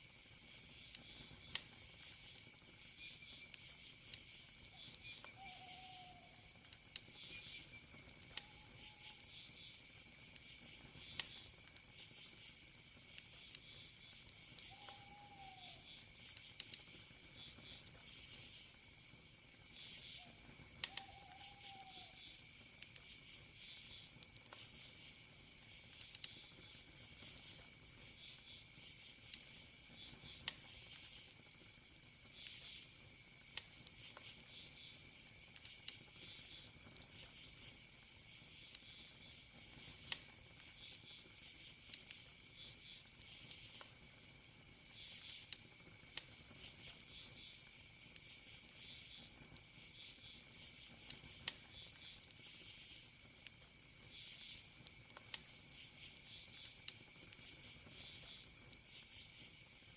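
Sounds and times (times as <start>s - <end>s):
crickets chirping: 0.0s - 59.9s
wood fire crackling and popping: 0.0s - 59.9s
high insect trill: 0.1s - 59.9s.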